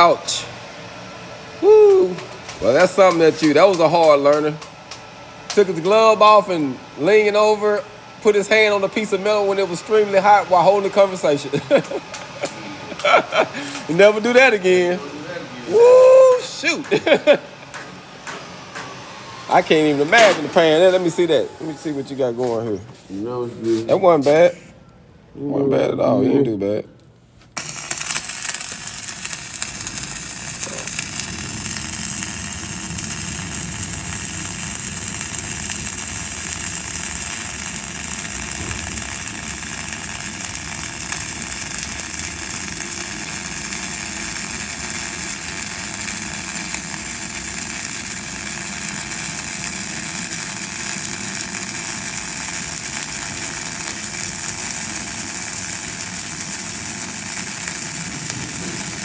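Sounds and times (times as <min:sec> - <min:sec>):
welding arc burning: 0:00.0 - 0:22.5, 0:27.4 - 0:59.0.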